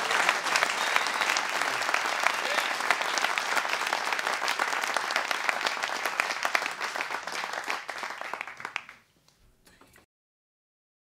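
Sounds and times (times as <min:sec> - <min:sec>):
audience applause: 0:00.0 - 0:09.1.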